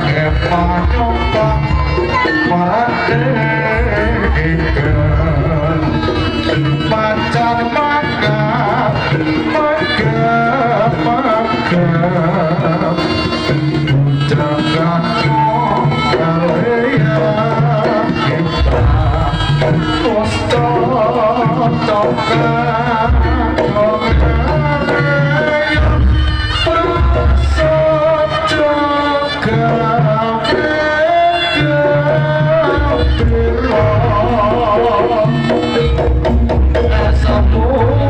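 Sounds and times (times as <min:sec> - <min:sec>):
gamelan ensemble: 0:00.0 - 0:38.0
hand drums beating: 0:00.0 - 0:38.0
wavering melody line: 0:00.0 - 0:38.0.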